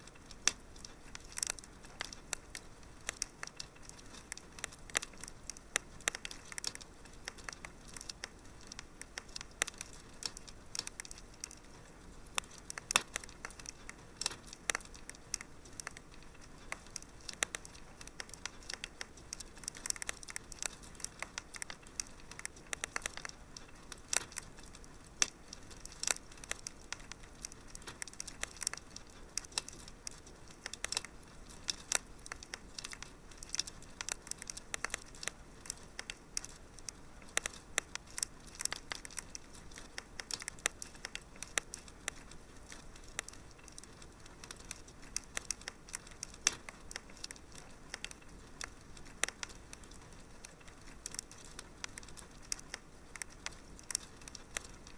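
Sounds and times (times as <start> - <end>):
faint steady hiss: 0.0 - 54.9
wood fire crackling: 0.0 - 54.9.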